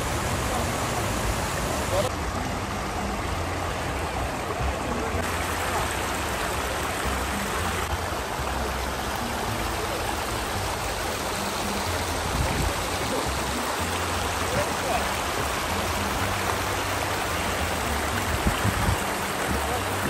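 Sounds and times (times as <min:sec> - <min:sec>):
water running over rocks: 0:00.0 - 0:20.0.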